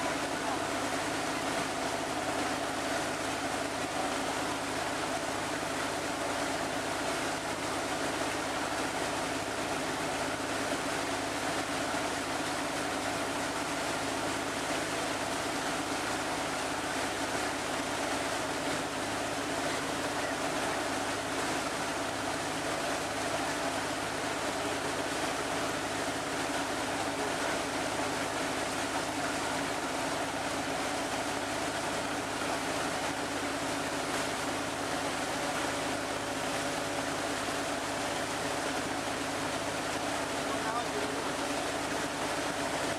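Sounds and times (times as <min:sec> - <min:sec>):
boat engine running: 0:00.0 - 0:42.9
water rushing along hull: 0:00.0 - 0:42.9.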